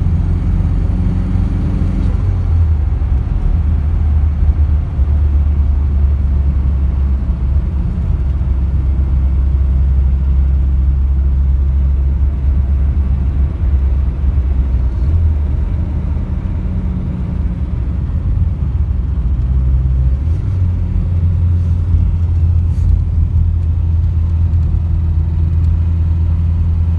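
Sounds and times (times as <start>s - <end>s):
engine low rumble: 0.0s - 26.9s.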